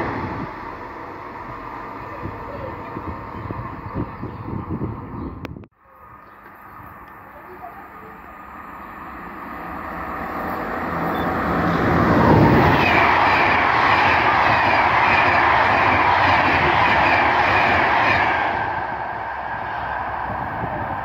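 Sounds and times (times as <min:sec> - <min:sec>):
coaches rushing on rails: 0:00.0 - 0:21.0
electric train passing at speed: 0:00.0 - 0:21.0.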